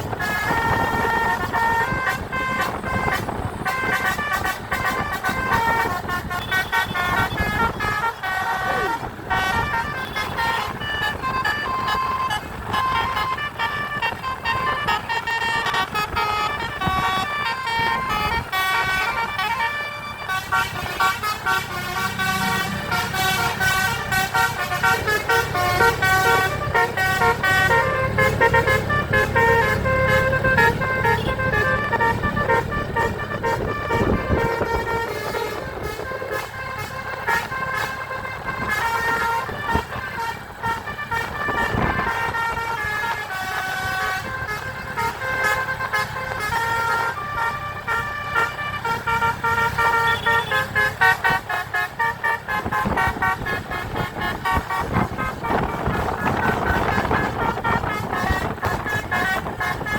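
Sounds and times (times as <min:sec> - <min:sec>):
bus engine running: 0:00.0 - 0:59.9
multi-tone bus horn playing tune: 0:00.0 - 0:59.9.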